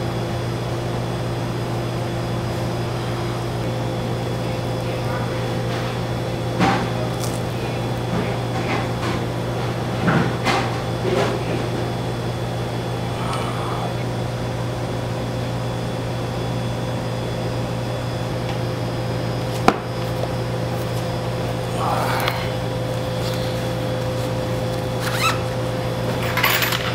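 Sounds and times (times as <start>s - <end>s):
room hum: 0.0s - 26.9s.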